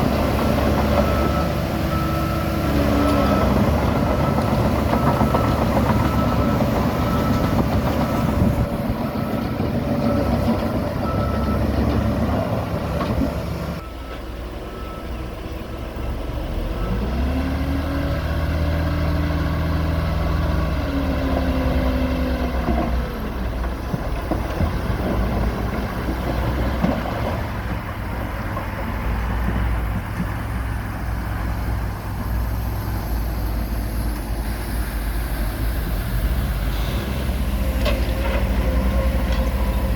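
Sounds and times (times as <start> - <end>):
diesel engine revving under load: 0.0 - 28.1, 29.2 - 39.9.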